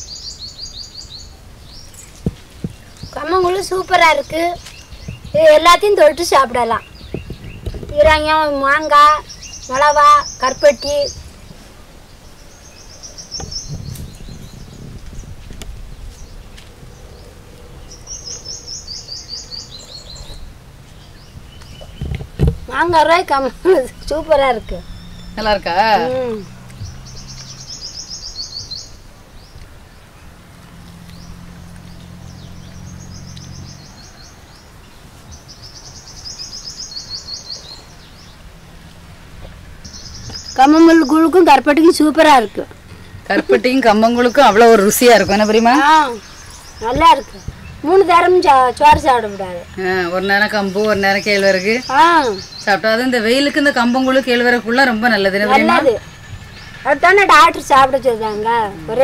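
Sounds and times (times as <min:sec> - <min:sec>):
small bird chirping: 0:00.0 - 0:59.0.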